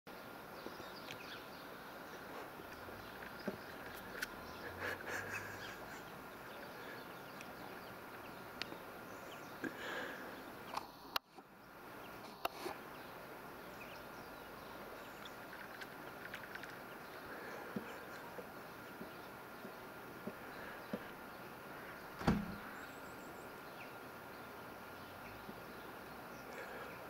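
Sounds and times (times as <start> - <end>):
steady hiss: 0.1 - 27.0
faint bird calls: 0.6 - 27.0.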